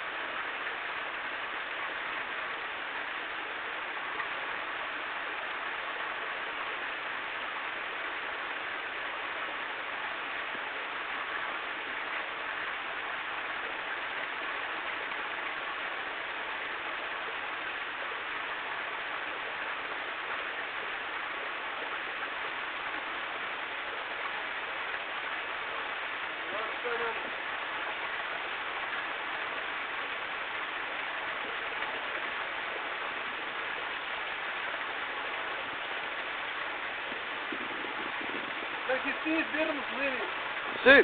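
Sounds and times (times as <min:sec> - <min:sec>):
steady rushing noise: 0:00.0 - 0:41.0.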